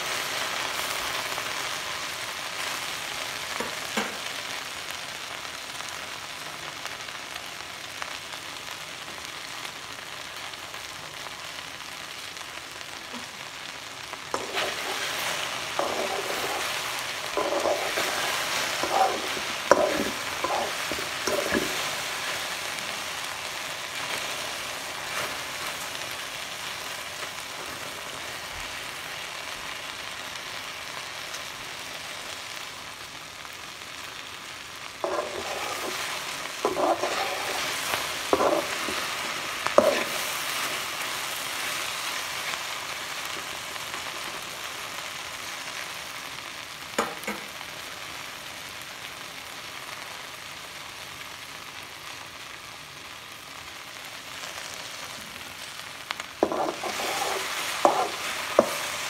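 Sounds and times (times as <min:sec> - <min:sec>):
okra sizzling in a pan: 0:00.0 - 0:59.0.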